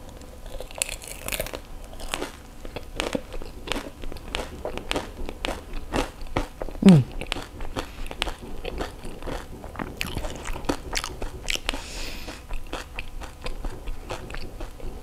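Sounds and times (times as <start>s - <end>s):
crunching fried shell: 0.0s - 15.0s
wet chewing: 0.5s - 15.0s.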